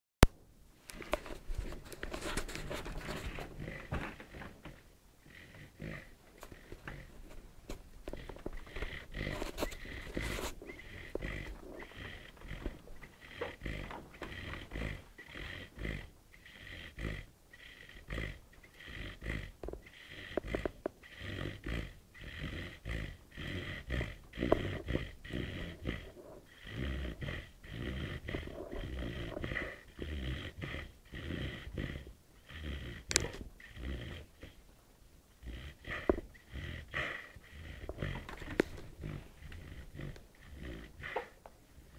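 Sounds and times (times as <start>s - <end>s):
puppy snoring and snorting: 1.1s - 34.6s, 35.4s - 41.9s.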